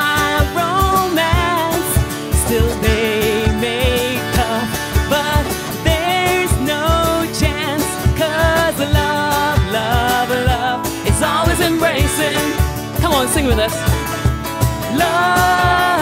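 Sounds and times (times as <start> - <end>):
live pop band: 0.0 - 16.0
person singing: 0.0 - 16.0
steady drum beat: 0.0 - 16.0.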